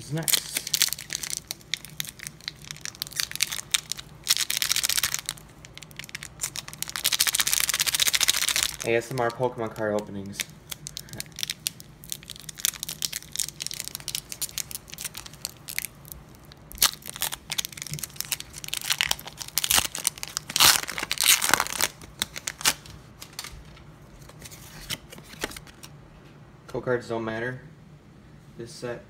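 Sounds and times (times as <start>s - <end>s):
foil wrapper crinkling and tearing: 0.0s - 25.9s.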